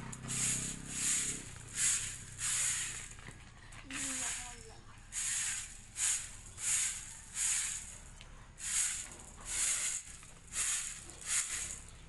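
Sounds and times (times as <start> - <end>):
broom sweeping corn kernels on concrete: 0.2 - 3.2, 3.9 - 12.0.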